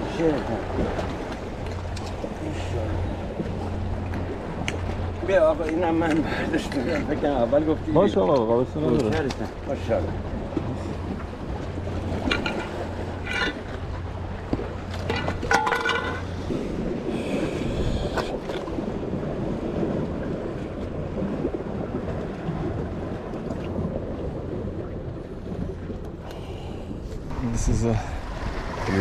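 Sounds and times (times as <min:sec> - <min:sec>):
wind buffeting microphone: 0:00.0 - 0:26.3
sea surf against rocks: 0:00.0 - 0:29.0.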